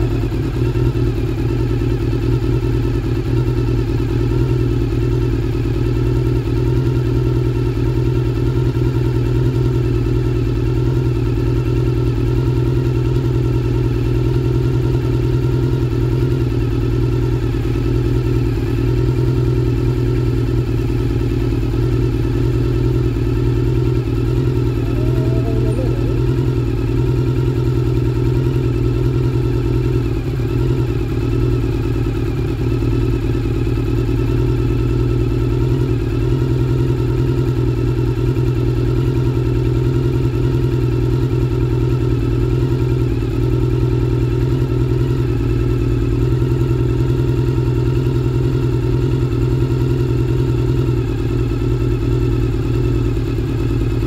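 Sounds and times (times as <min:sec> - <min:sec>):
scooter engine idling: 0:00.0 - 0:54.0.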